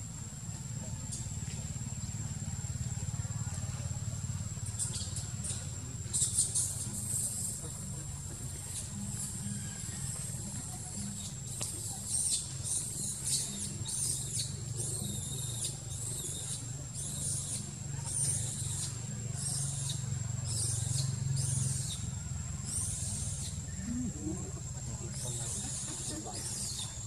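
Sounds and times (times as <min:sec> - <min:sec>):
rhythmic high-pitched hissing pulses: 0:00.0 - 0:27.0
steady low hum: 0:00.0 - 0:27.0.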